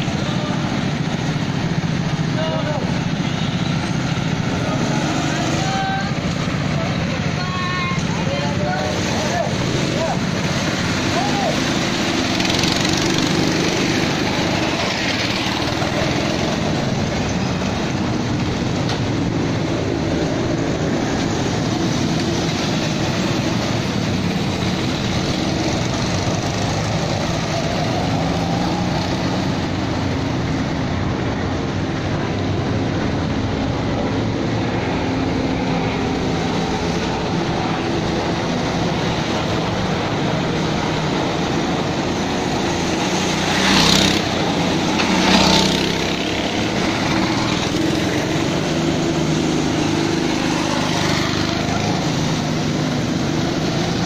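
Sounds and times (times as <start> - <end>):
go-kart engines droning: 0.0 - 54.0.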